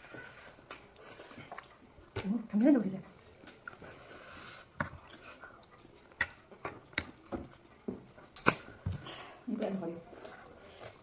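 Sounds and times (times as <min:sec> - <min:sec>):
eating noodles with clicks and smacks: 0:00.0 - 0:11.0.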